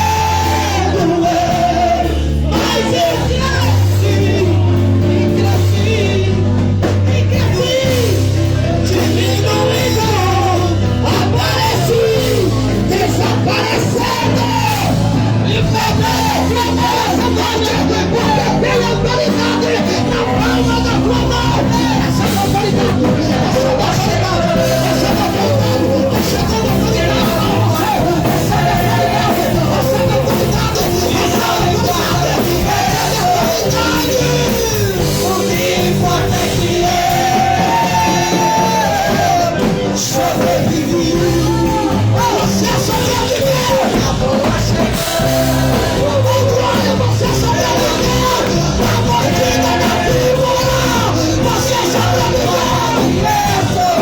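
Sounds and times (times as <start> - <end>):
loud music with singing: 0.0 - 54.0.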